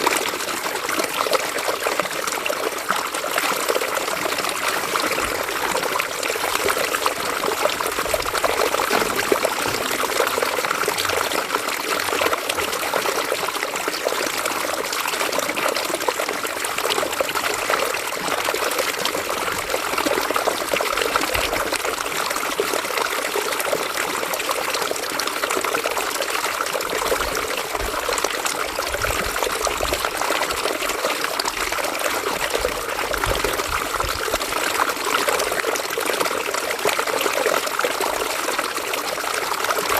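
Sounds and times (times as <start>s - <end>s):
river water running over stones: 0.0s - 39.9s.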